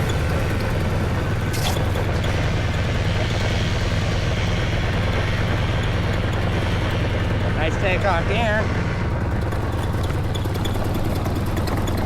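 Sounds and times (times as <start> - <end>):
paramotor engine and propeller humming: 0.0 - 12.0.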